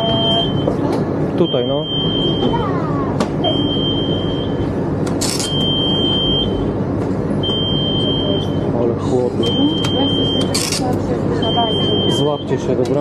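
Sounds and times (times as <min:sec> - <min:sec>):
tram door warning beep: 0:00.0 - 0:02.8, 0:03.4 - 0:06.8, 0:07.4 - 0:08.8, 0:09.4 - 0:10.8, 0:11.4 - 0:13.0
tram humming: 0:00.0 - 0:13.0.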